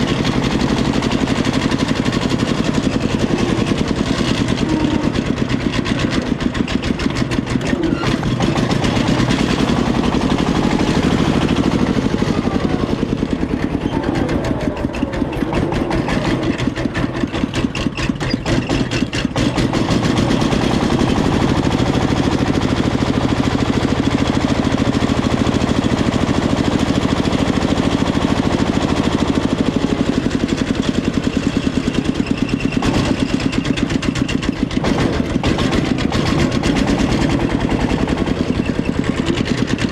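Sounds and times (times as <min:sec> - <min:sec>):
diesel engines chugging: 0:00.0 - 0:39.9.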